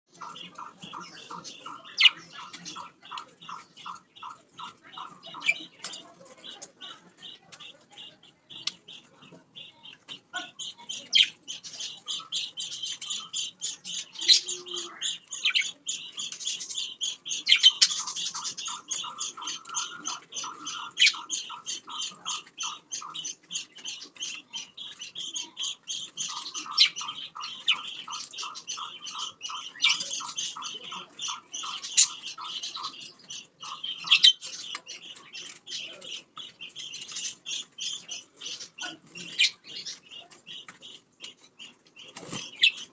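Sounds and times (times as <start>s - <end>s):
low pulsing chatter: 0.0s - 42.9s
budgerigars chirping: 0.1s - 42.9s.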